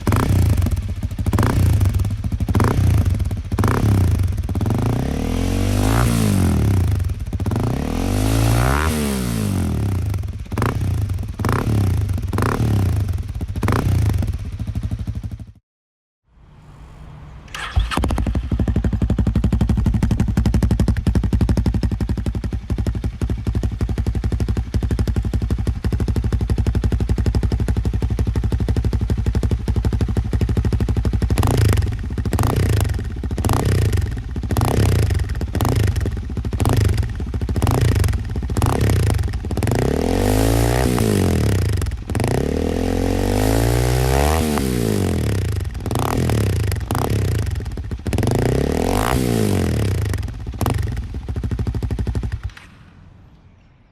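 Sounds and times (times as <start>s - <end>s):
motorcycle engine idling: 0.0s - 8.4s, 9.5s - 15.6s, 17.6s - 43.3s, 44.9s - 48.7s, 49.4s - 52.6s
engine throttle blips and revs: 0.0s - 15.2s, 17.5s - 52.6s.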